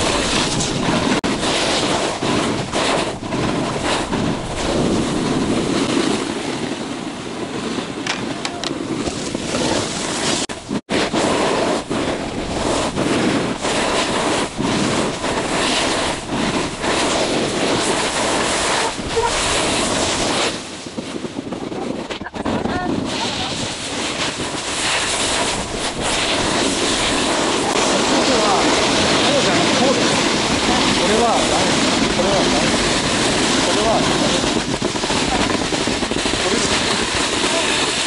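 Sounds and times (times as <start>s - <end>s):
snowboard scraping over snow: 0.0s - 38.0s
wind buffeting microphone: 0.0s - 38.0s.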